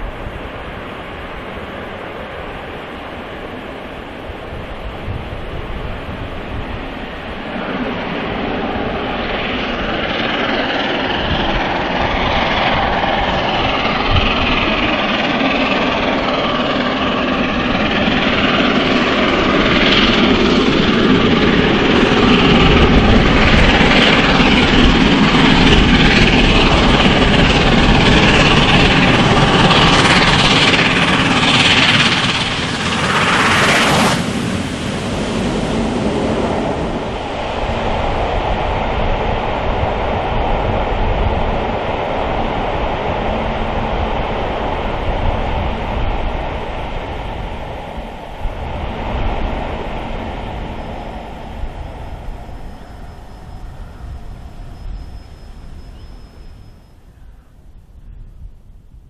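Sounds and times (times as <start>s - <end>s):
steam locomotive exhaust blasting: 5.1s - 56.8s.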